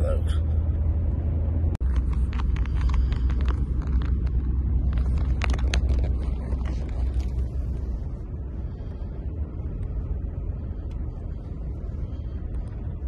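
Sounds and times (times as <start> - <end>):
vehicle cabin road and engine rumble: 0.0 - 13.0.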